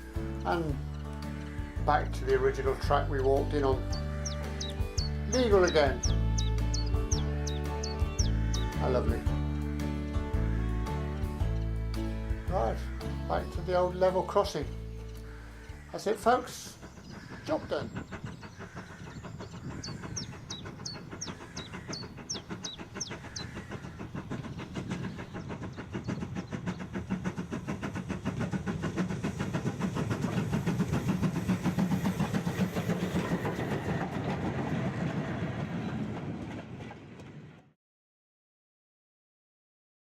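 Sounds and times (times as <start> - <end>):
train clickety-clack on rails: 0.0 - 37.8.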